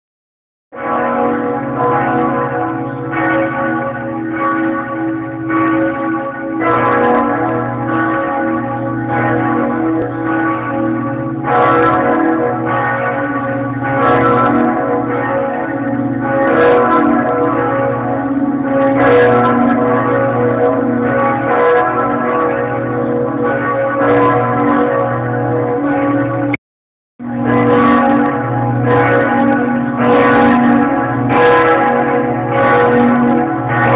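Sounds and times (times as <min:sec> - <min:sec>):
church bells pealing: 0:00.8 - 0:26.5, 0:27.2 - 0:33.9.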